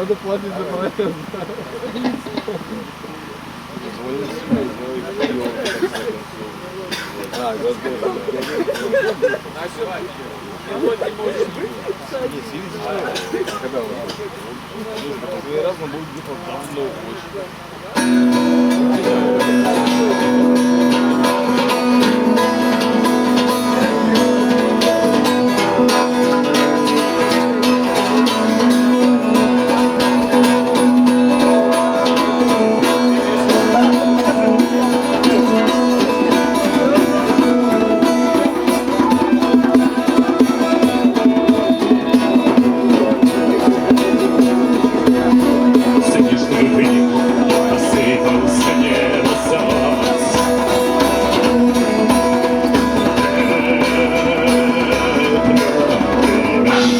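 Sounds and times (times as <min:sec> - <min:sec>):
plucked string instruments: 0:00.0 - 0:56.9.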